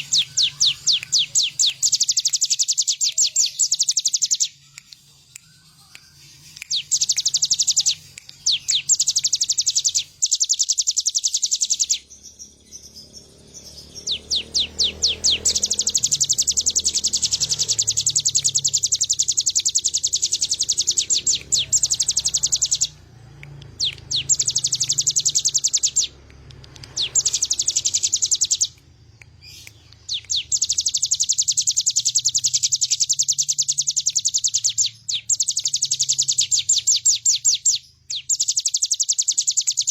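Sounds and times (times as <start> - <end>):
bird high-pitched rapid trills: 0.0 - 23.1, 23.8 - 26.2, 26.9 - 39.9.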